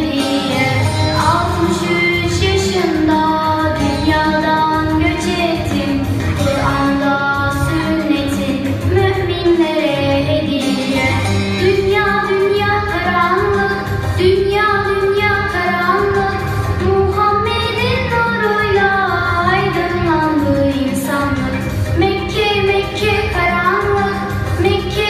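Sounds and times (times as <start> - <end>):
children's song: 0.0 - 25.0.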